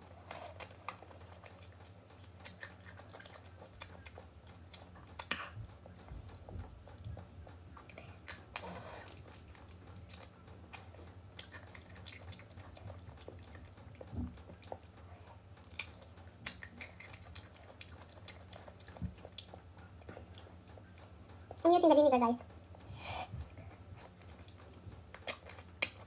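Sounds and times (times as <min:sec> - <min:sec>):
low steady hum: 0:00.0 - 0:26.0
crunching chewing: 0:00.2 - 0:21.6, 0:22.6 - 0:26.0.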